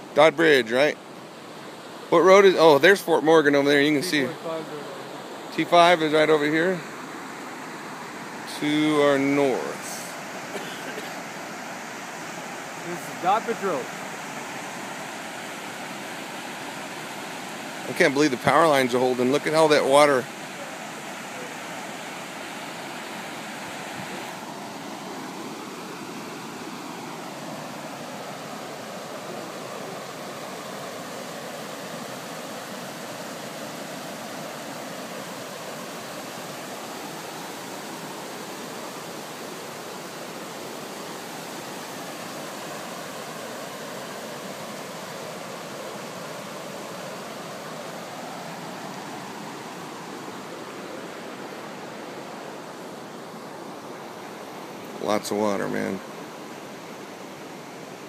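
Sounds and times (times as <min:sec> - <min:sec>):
floodwater rushing over road edge: 0:00.0 - 0:58.0.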